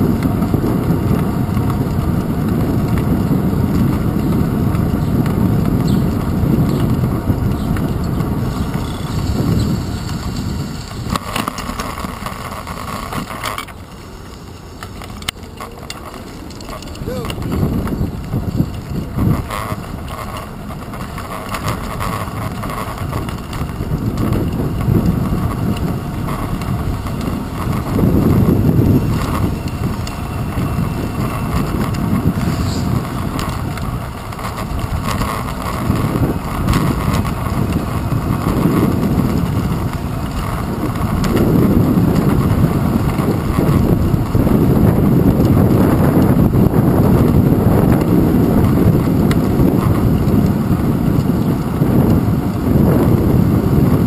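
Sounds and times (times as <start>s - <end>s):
tyres rumbling on wet pavement: 0.0s - 54.0s
wind buffeting camera: 0.0s - 54.0s.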